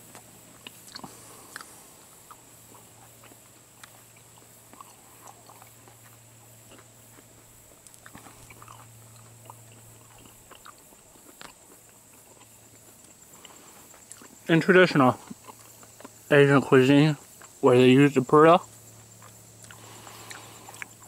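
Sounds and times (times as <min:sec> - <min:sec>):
person chewing food: 0:00.0 - 0:16.3, 0:17.2 - 0:17.6, 0:18.7 - 0:21.0
low steady hum: 0:00.0 - 0:21.0.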